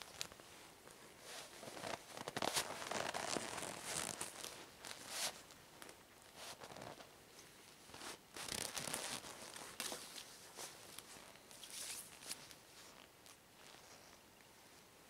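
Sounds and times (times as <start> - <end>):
rubber gloves rustling: 0.0 - 14.2.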